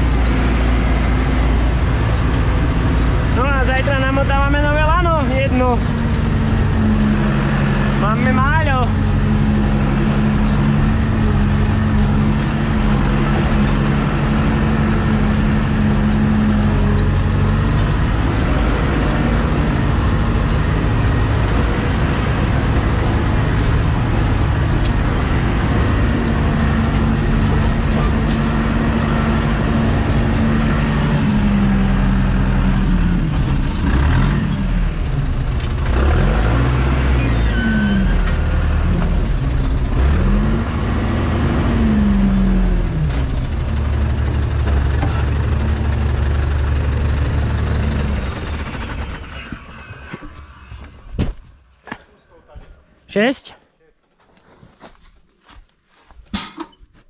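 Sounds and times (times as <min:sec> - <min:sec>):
diesel engine revving: 0:00.0 - 0:51.0.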